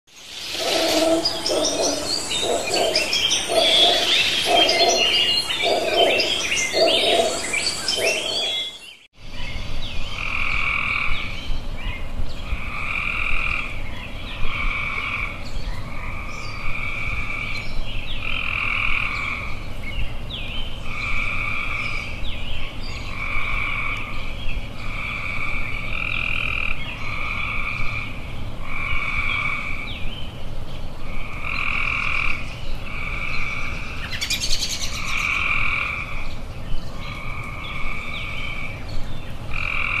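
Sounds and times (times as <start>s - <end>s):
tree frogs croaking chorus: 0.1s - 9.1s, 10.1s - 11.4s, 12.4s - 30.3s, 31.0s - 40.0s.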